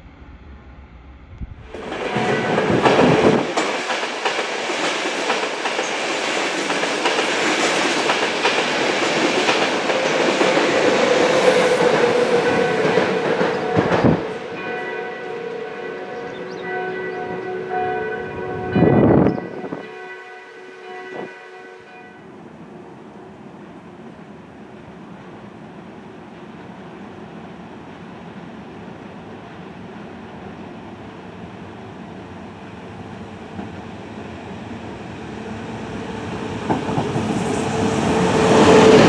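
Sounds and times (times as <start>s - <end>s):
train wheel and rail rolling noise: 0.0s - 20.1s, 21.9s - 39.0s
electric train whine: 0.0s - 39.0s.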